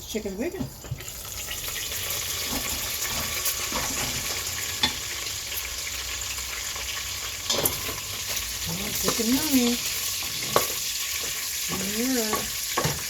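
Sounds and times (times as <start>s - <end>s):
bacon sizzling: 0.8s - 13.0s.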